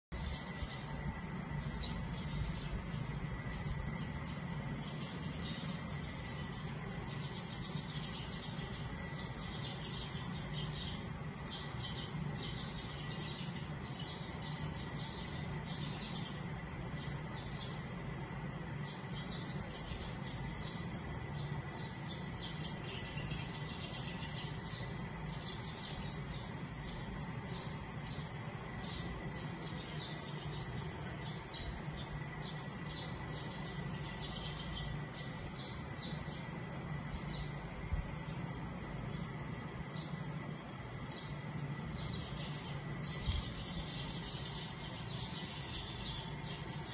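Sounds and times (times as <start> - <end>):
low background hum: 0.0 - 46.9
sparrow chirping: 0.1 - 46.9.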